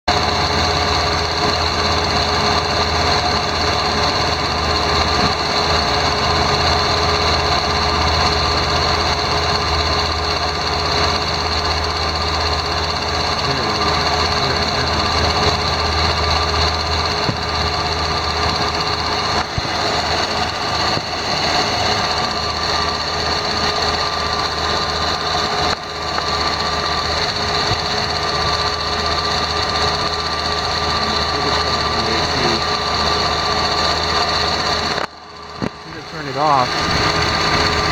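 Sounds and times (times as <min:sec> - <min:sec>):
car engine idling: 0:00.0 - 0:37.9
rapid mechanical clicking: 0:00.1 - 0:37.9.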